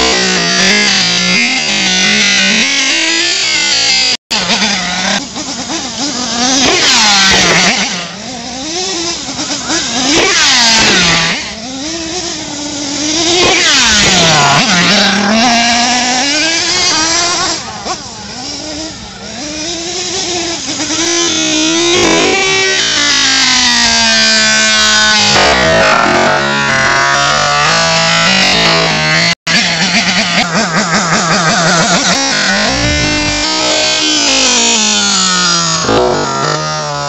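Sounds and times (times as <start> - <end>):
small nitro engine revving: 0.0 - 37.0.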